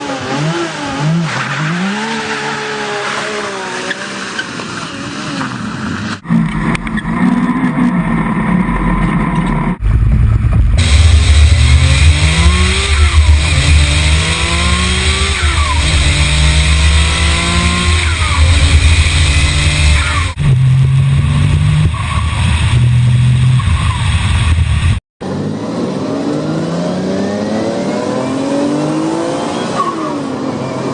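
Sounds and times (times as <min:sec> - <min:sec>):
car engine accelerating hard: 0:05.0 - 0:30.9.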